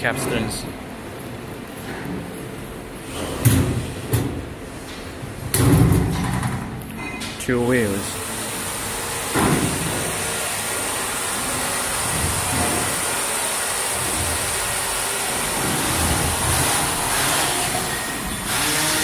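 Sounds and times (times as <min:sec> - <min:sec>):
factory machinery noise: 0:00.0 - 0:19.0.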